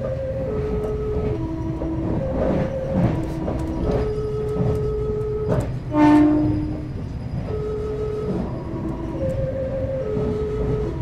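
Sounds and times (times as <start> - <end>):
train running rumble: 0.0 - 11.0
train horn playing electronic melody: 0.1 - 11.0.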